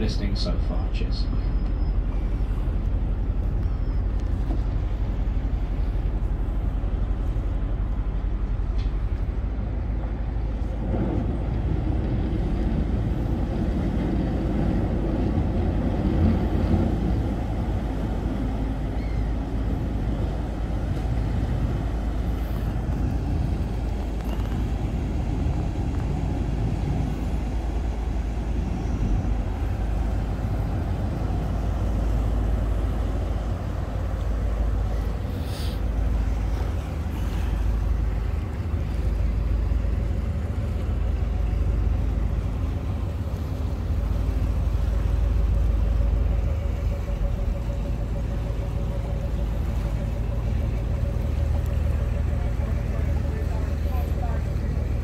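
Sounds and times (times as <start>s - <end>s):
boat engine humming: 0.0s - 55.0s.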